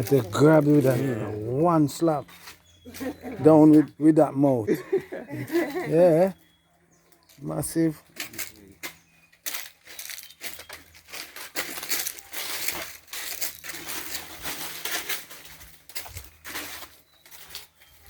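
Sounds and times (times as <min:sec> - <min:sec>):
footsteps crunching through dry leaves: 0:00.0 - 0:03.8, 0:07.2 - 0:18.0.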